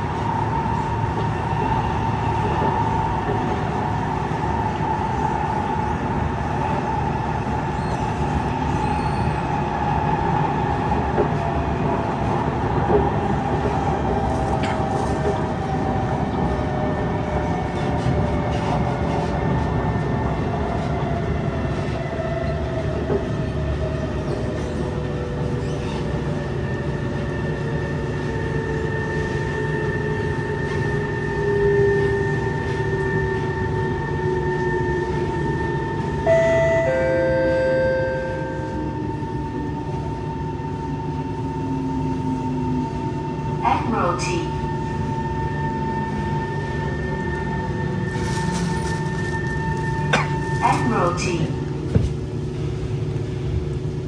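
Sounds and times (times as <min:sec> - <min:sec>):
train wheels rumbling on track: 0:00.0 - 0:37.3, 0:38.5 - 0:54.0.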